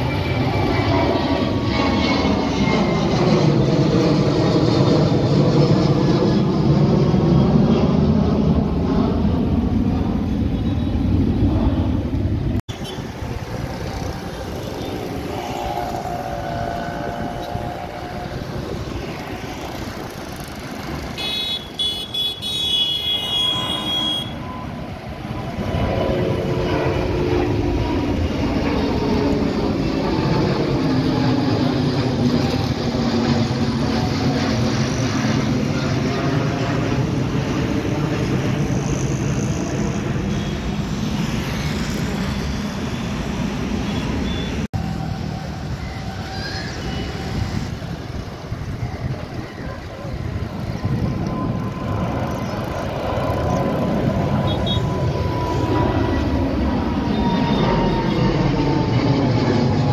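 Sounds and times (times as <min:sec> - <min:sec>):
distant jet airliner taking off: 0:00.0 - 0:59.9
jet airliner passing overhead: 0:00.0 - 0:59.9.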